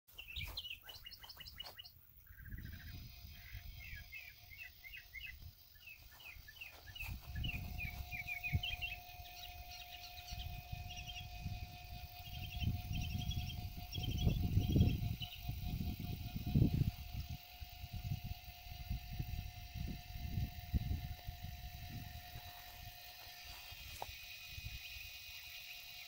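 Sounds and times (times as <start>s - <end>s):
small songbirds chirping: 0.1s - 26.0s
faint steady hum: 0.2s - 26.0s.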